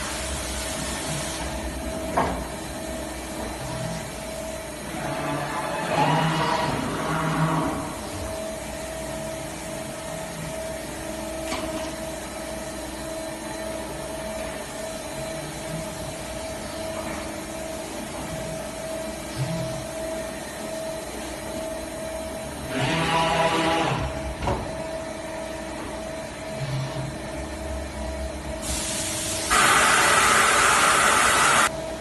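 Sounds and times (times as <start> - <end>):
constant machine whine: 0.0 - 32.0
machine mechanical hum: 0.0 - 32.0.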